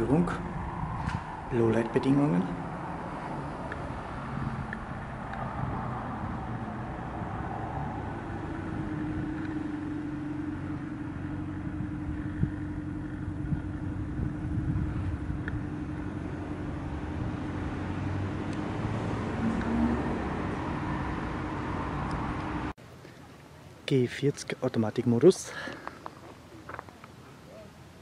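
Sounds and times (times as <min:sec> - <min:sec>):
constant hum: 0:00.0 - 0:28.0
road traffic rumble: 0:00.0 - 0:28.0.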